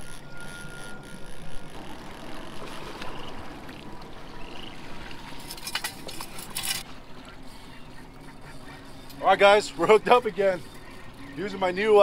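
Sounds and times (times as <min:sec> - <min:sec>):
water splashing: 0:00.6 - 0:12.0.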